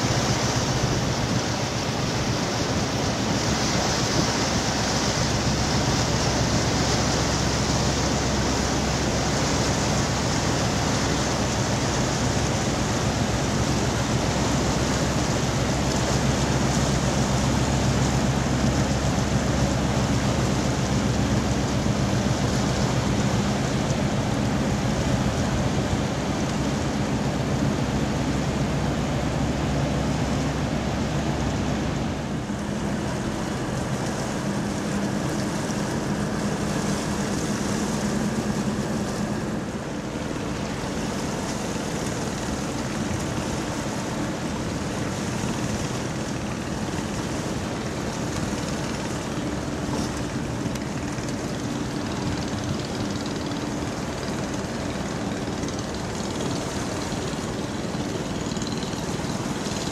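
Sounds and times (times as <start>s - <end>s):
ship engine hum: 0.0s - 59.9s
water rushing along hull: 0.0s - 59.9s.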